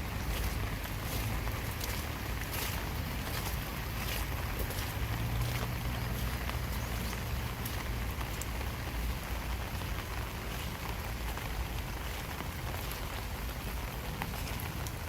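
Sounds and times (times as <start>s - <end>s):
raindrops ticking: 0.0s - 15.0s
steady rain hiss: 0.0s - 15.0s.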